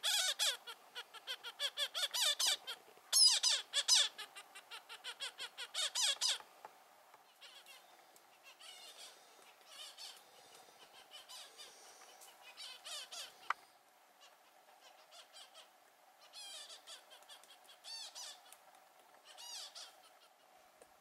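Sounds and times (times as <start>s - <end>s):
woodpeckers calling: 0.0s - 6.6s, 7.2s - 20.5s.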